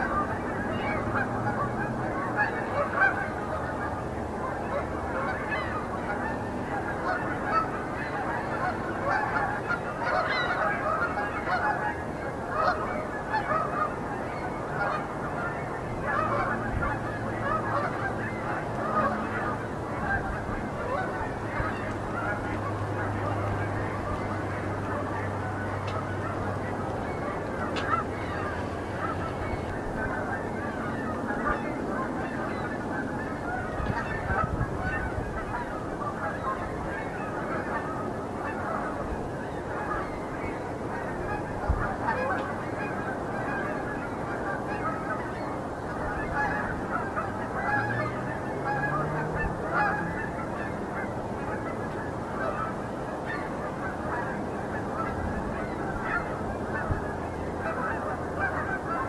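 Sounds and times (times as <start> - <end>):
geese honking: 0.0 - 59.0.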